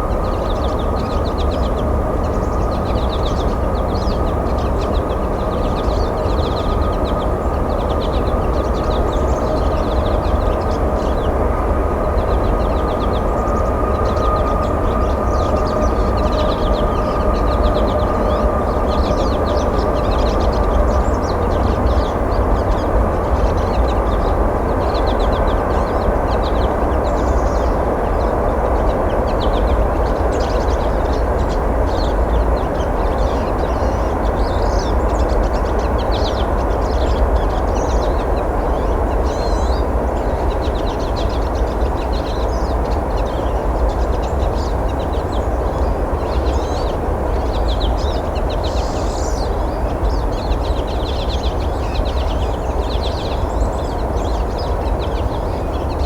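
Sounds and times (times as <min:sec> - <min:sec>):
small birds calling: 0:00.0 - 0:56.0.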